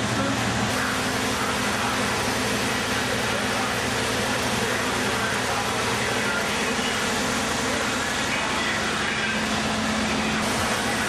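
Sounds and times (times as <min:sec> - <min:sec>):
fire engines droning: 0:00.0 - 0:11.0.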